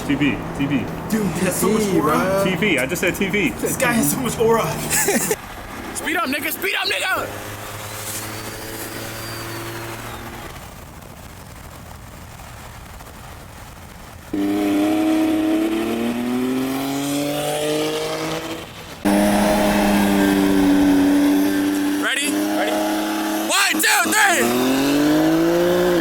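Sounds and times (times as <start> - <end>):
car engine revving at full throttle: 0.0 - 10.8, 14.3 - 26.0.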